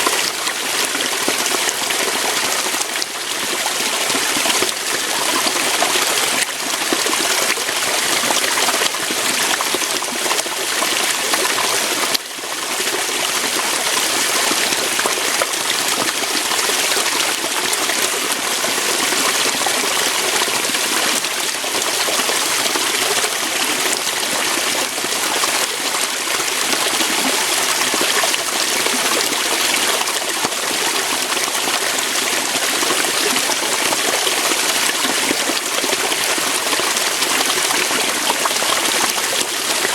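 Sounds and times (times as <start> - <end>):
water splashing over rocks: 0.0 - 39.9.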